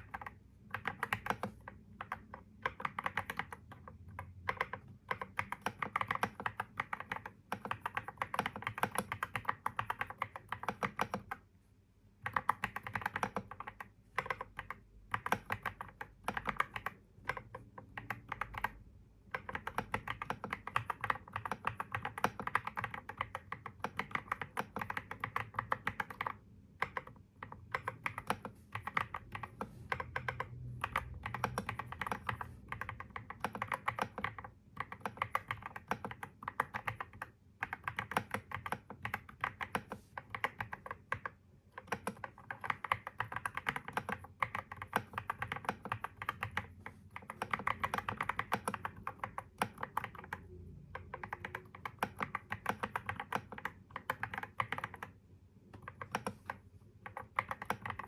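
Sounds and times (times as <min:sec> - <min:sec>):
computer keyboard typing: 0:00.0 - 0:11.5, 0:12.2 - 0:58.0.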